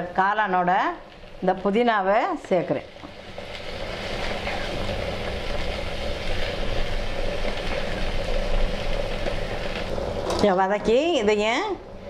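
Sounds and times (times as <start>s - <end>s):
pan of food sizzling: 0.0s - 12.0s.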